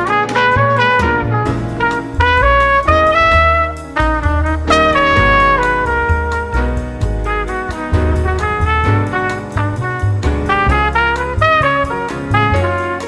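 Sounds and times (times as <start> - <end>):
bass notes: 0.0 - 13.0
brass melody: 0.0 - 13.0.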